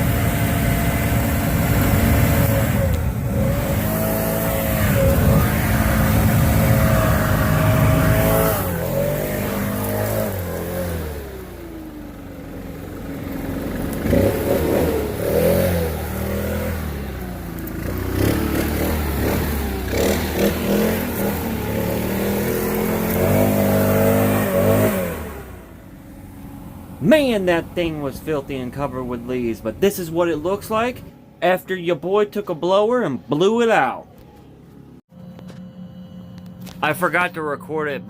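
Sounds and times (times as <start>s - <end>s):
leaf blower engine revving: 0.0s - 31.1s.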